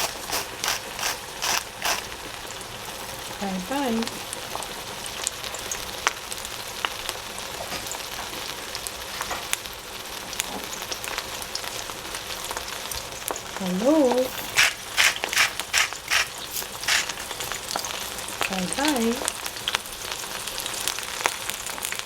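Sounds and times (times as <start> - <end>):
eggplant frying in hot oil: 0.0 - 22.0
spattering oil crackles: 0.0 - 22.0.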